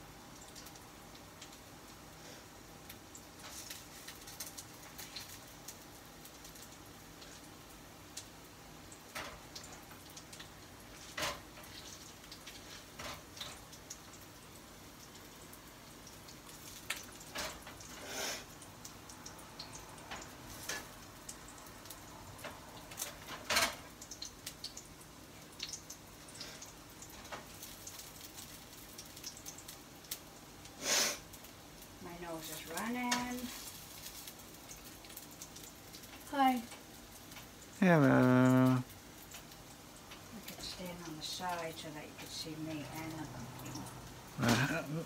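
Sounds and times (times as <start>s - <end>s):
meat sizzling in a frying pan: 0.0s - 45.0s.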